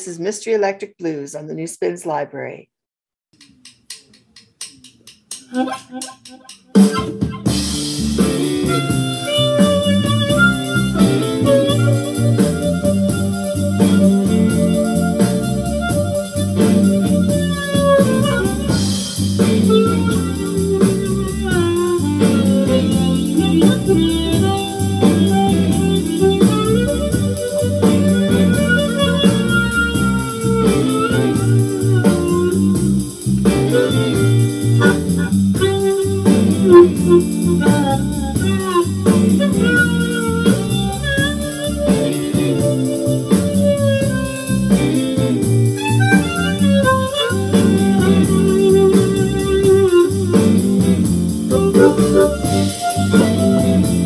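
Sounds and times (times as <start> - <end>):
blues band backing: 5.4 - 54.0
harmonica playing bent notes: 5.4 - 54.0.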